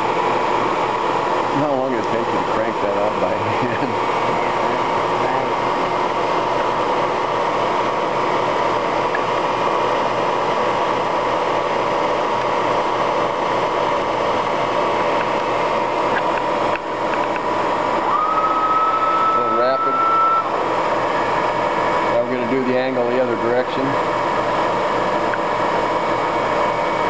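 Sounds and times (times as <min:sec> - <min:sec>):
higher whine: 0:00.0 - 0:27.0
milling machine hum and whine: 0:00.0 - 0:27.0.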